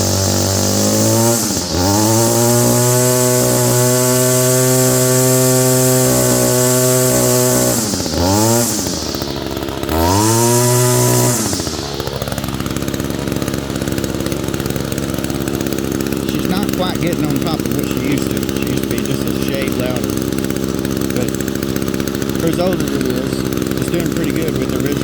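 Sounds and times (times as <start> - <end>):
string trimmer engine revving: 0.0 - 25.0.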